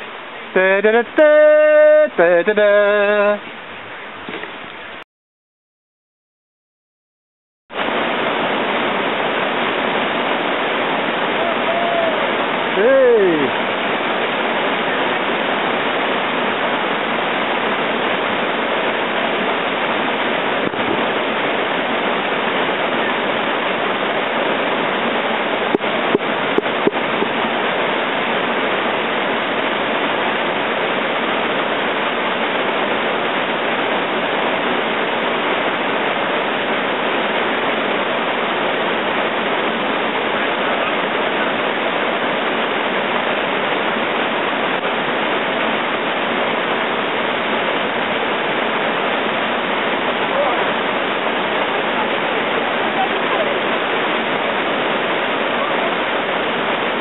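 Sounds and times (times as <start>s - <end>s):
rushing whitewater: 0.0s - 5.0s, 7.7s - 57.0s.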